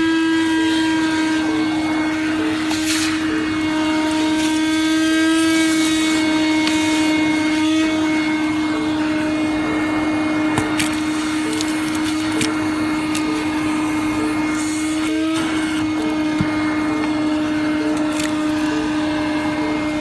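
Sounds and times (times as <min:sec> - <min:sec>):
shop vac motor whine: 0:00.0 - 0:20.0.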